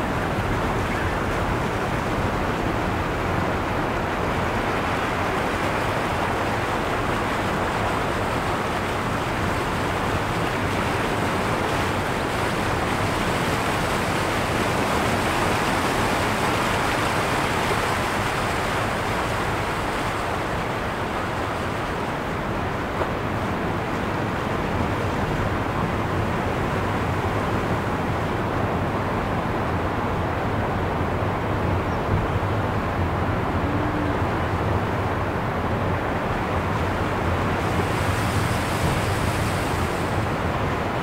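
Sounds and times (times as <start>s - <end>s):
rushing falling water: 0.0s - 41.0s
waves on rocks: 0.0s - 41.0s.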